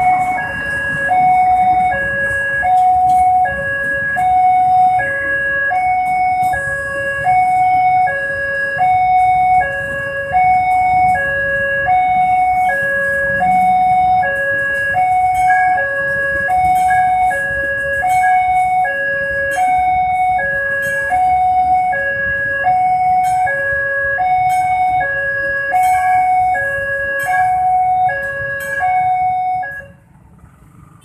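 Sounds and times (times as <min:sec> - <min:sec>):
level-crossing two-tone alarm: 0:00.0 - 0:30.0
passing train rumble: 0:00.0 - 0:31.0.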